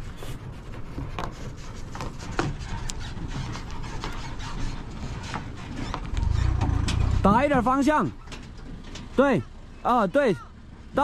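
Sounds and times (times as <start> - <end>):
footsteps on stony ground: 0.0 - 9.2
truck engine running: 0.0 - 11.0.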